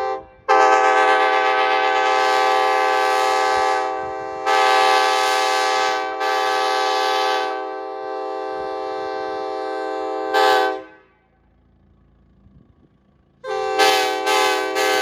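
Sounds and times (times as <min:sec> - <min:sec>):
locomotive air horn blasts: 0:00.0 - 0:11.4, 0:13.4 - 0:15.0.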